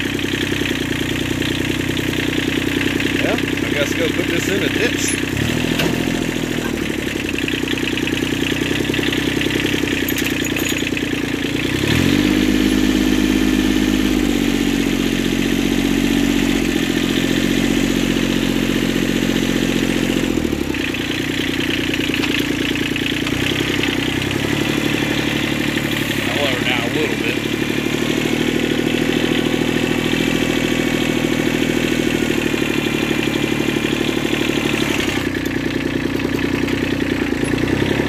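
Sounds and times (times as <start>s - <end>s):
diesel tractor engine running: 0.0s - 38.0s.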